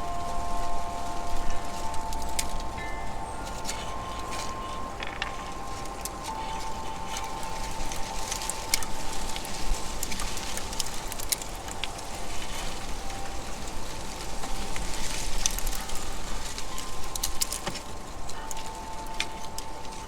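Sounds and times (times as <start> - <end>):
faint steady tone: 0.0 - 20.0
squirrels cracking seeds and nuts: 0.0 - 20.0.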